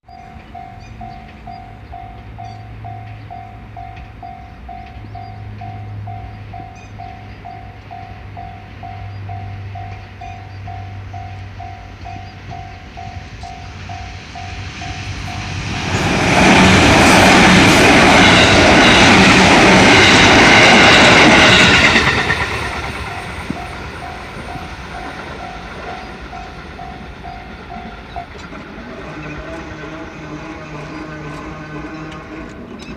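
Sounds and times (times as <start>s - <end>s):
railroad crossing bell ringing: 0.0s - 32.9s
train passing with wheels clattering: 0.0s - 32.9s.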